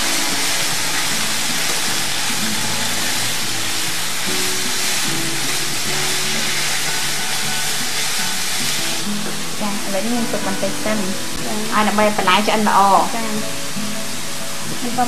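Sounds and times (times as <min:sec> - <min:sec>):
background music: 0:00.0 - 0:15.0
vegetables sizzling in a pan: 0:00.0 - 0:15.0.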